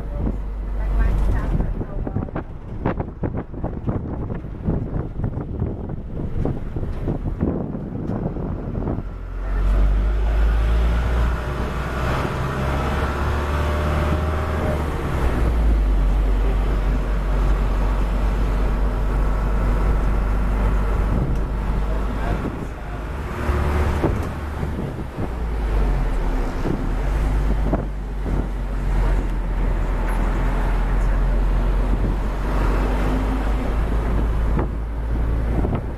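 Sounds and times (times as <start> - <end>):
vehicle engine and road noise: 0.0 - 35.9
wind buffeting microphone: 0.0 - 35.9.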